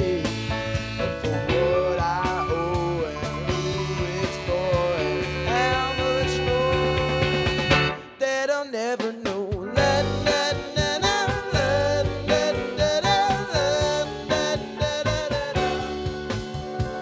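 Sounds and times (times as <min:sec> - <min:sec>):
live band playing instrumental: 0:00.0 - 0:08.2, 0:09.0 - 0:17.0.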